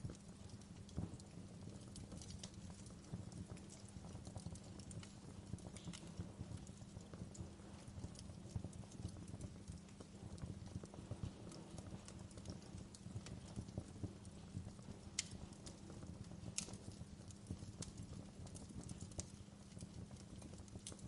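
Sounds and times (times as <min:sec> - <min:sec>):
fire pops: 0:00.0 - 0:21.0
low fire rumble: 0:00.0 - 0:21.0
wood fire crackling: 0:00.0 - 0:21.0.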